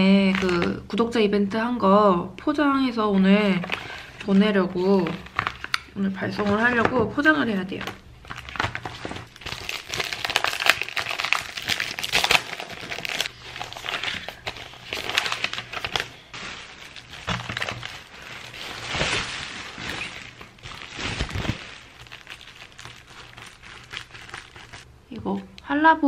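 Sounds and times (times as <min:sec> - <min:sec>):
plastic bags crinkling: 0:00.2 - 0:00.7, 0:03.2 - 0:24.9.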